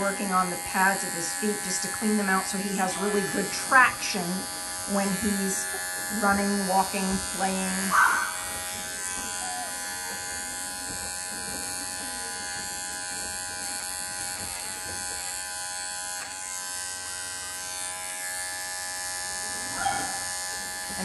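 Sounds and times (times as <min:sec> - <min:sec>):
electric pet clippers running: 0:00.0 - 0:21.0.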